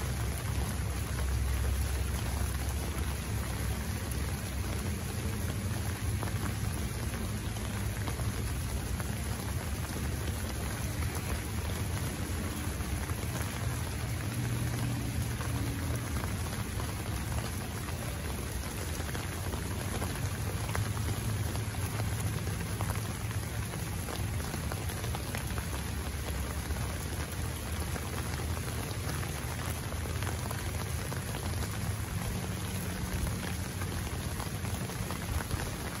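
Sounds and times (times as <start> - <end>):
heavy rain on pavement: 0.0 - 36.0
low steady rumble: 0.0 - 36.0.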